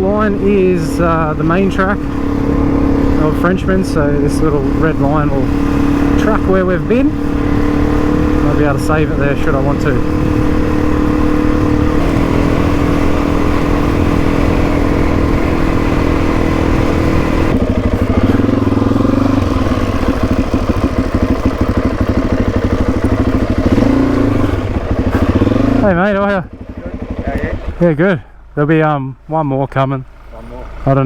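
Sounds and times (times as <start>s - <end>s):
motorcycle engine running: 0.0s - 29.3s.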